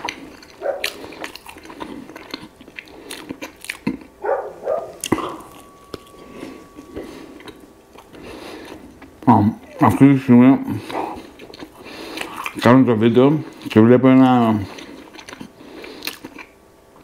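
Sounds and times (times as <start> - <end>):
chewing bread: 0.0 - 17.0.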